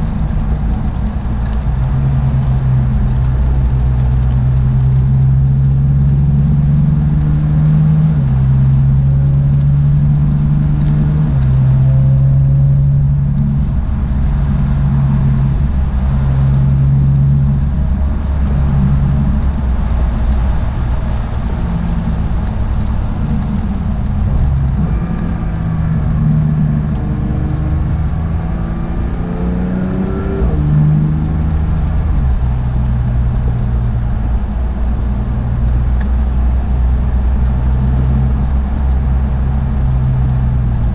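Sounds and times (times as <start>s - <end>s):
sports car engine revving: 0.0s - 40.9s.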